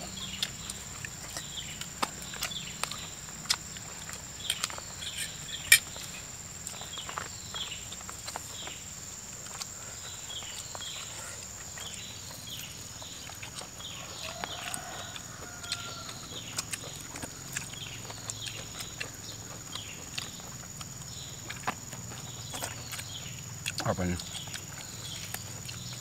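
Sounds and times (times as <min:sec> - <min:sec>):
high insect drone: 0:00.0 - 0:26.0
wet lip smacks and chewing: 0:00.2 - 0:07.3, 0:09.3 - 0:26.0.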